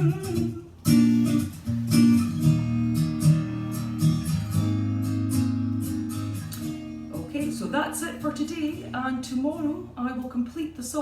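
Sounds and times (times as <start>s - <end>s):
strummed acoustic guitar: 0.0s - 10.4s.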